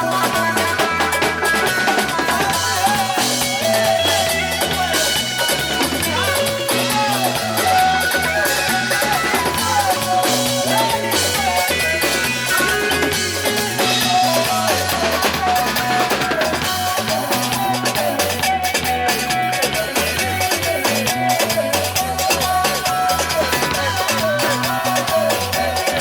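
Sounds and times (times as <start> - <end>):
drums: 0.0 - 26.0
guitar: 0.0 - 26.0
repeating bass line: 0.0 - 26.0
sliding lead melody: 0.0 - 26.0.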